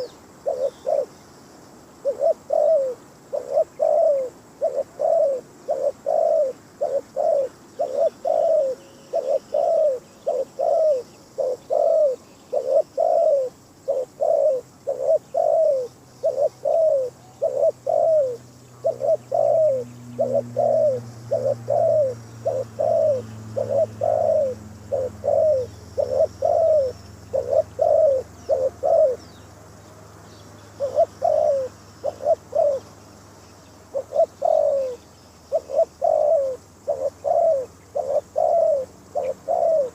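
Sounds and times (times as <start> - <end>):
dove cooing: 0.0 - 1.2, 2.0 - 29.4, 30.7 - 33.0, 33.9 - 39.9.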